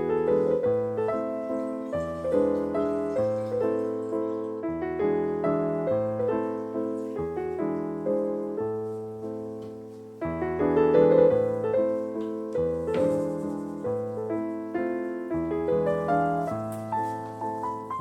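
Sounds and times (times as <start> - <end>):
solo piano gentle chords: 0.0 - 18.0.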